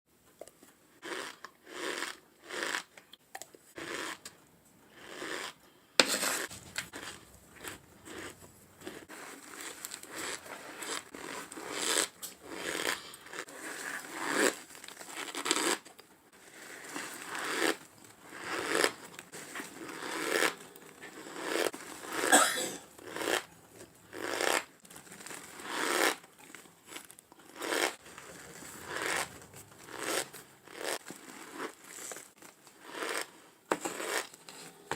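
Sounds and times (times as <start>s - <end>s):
squeaky crunching of cornstarch chewing: 0.4s - 5.7s, 6.3s - 22.3s, 22.9s - 34.3s.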